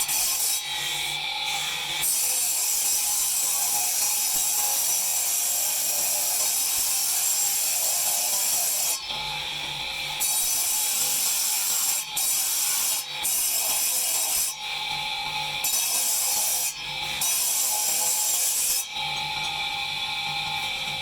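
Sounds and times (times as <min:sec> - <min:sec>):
grinder grinding stone: 0:00.0 - 0:21.0.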